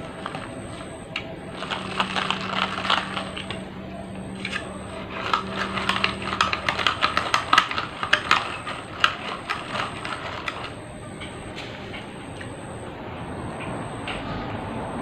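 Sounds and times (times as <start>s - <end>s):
eating clicks and clinks: 0.0s - 12.5s.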